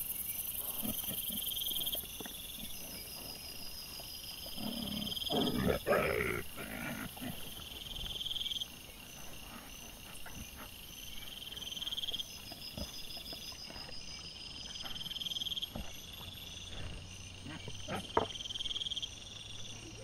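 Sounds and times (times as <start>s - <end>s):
insects pulsing trills: 0.0s - 20.0s.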